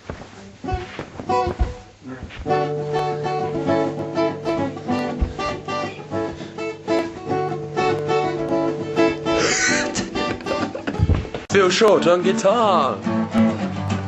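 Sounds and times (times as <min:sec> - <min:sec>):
strummed guitar chords: 0:00.6 - 0:14.0.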